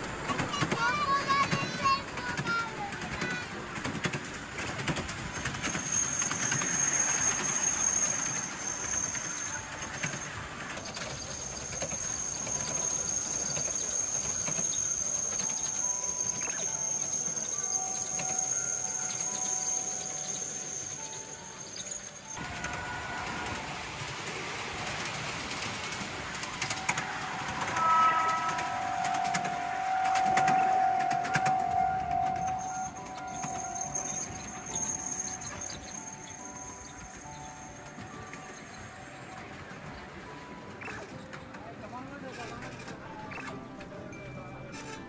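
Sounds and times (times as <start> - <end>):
miniature train running on track: 0.0 - 45.0.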